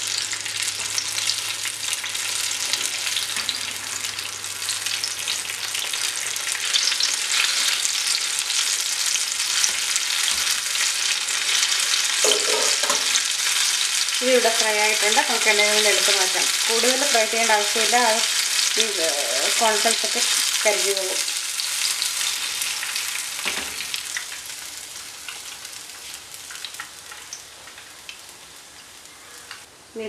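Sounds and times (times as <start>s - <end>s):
food deep-frying in hot oil: 0.0s - 30.0s.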